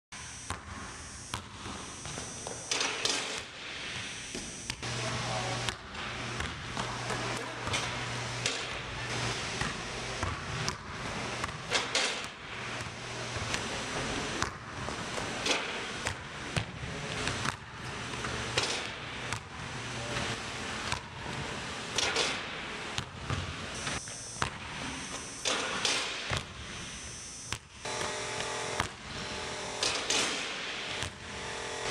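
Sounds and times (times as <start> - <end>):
basketball bouncing: 0.5 - 3.5, 5.6 - 8.9, 9.5 - 20.2, 20.8 - 21.4, 22.0 - 26.6, 27.5 - 31.9.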